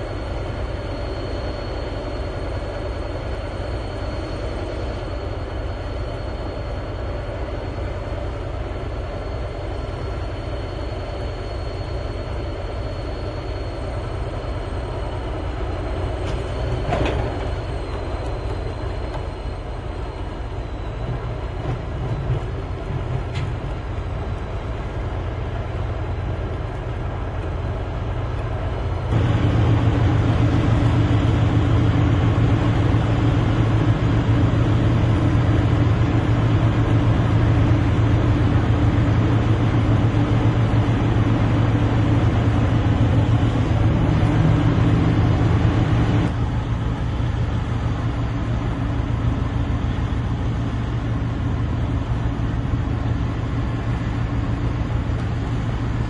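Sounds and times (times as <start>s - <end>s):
heavy machinery droning: 0.0s - 56.0s.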